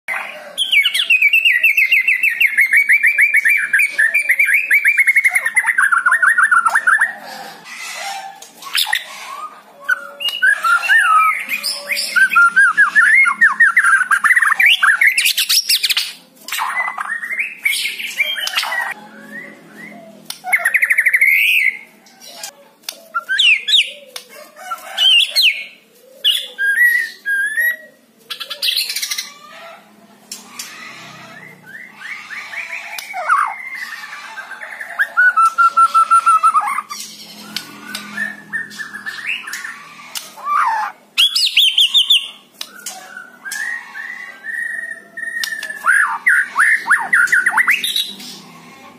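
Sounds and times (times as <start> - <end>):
bird singing varied song: 0.1 - 7.2, 8.6 - 24.2, 30.2 - 48.6.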